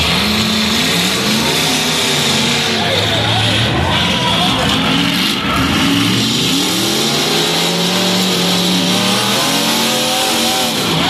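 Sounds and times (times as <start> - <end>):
car engine revving hard: 0.0 - 11.0.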